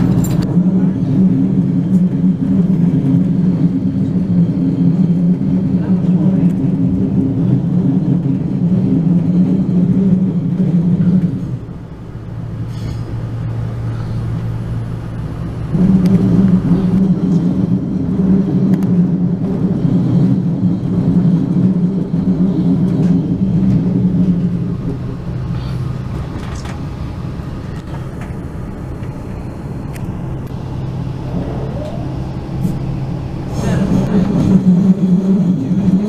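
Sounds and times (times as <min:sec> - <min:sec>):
train hum and drone: 0:00.0 - 0:36.0.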